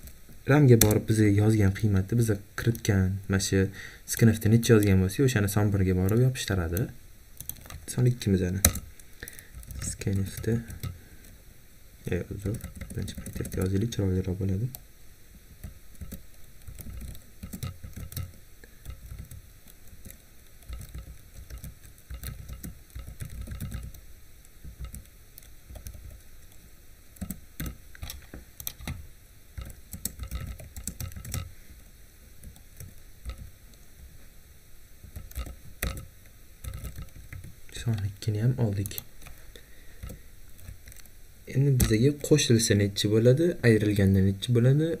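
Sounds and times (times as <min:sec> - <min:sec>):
steady background hiss: 0:00.0 - 0:45.0.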